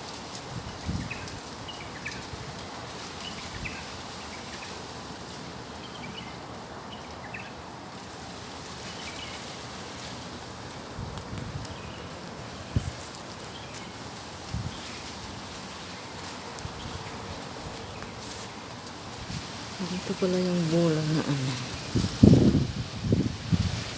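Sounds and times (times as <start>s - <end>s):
strong wind through trees: 0.0s - 23.9s.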